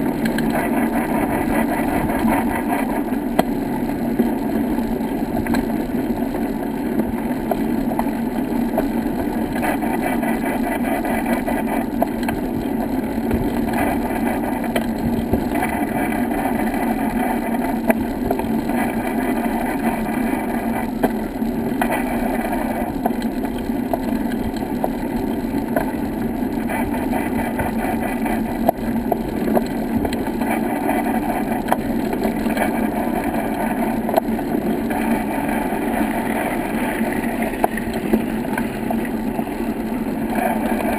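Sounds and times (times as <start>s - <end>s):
vehicle rolling on brick path: 0.0s - 40.9s.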